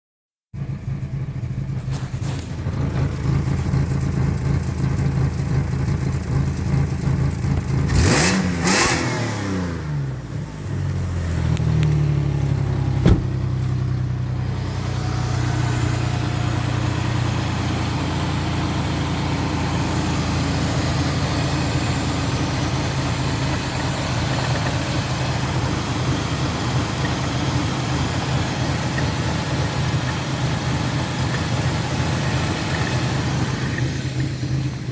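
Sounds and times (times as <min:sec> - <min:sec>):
car engine idling roughly: 0:00.6 - 0:08.0, 0:12.2 - 0:34.9.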